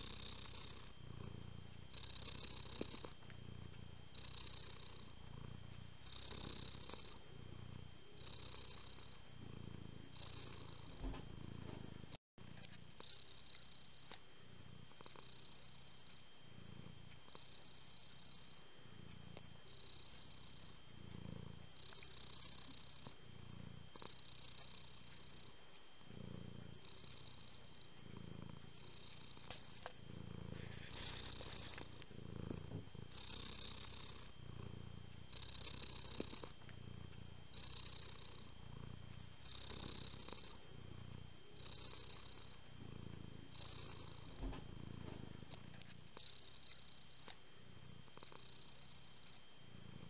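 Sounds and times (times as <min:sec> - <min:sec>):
cat purring: 0:00.0 - 0:50.0.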